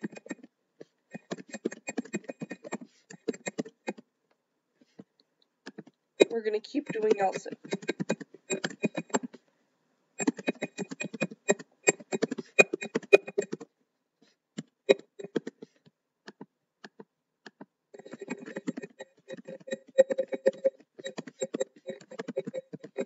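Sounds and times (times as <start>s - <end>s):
typing on computer keyboard: 0.0s - 0.5s, 1.1s - 4.0s, 5.7s - 9.4s, 10.2s - 13.7s, 14.6s - 23.0s.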